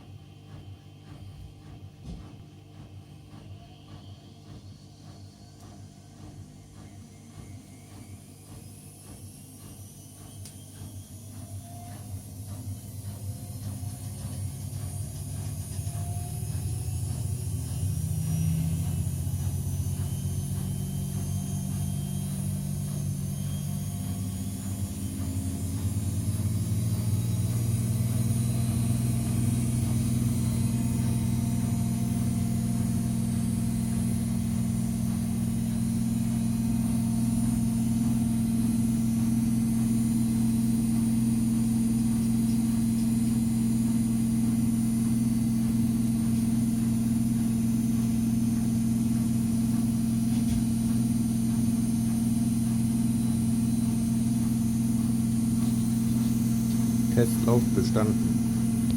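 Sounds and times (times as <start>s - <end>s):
washing machine drum spinning: 0.0s - 58.9s.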